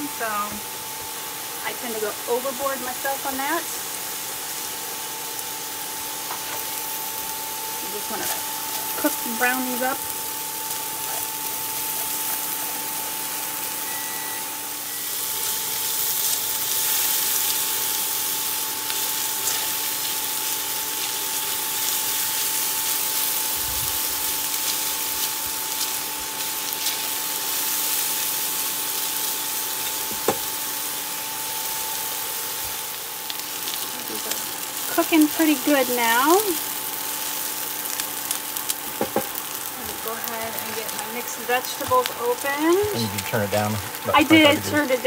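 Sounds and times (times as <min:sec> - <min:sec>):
cooktop hum: 0:00.0 - 0:45.0
onions sizzling in oil: 0:00.0 - 0:45.0.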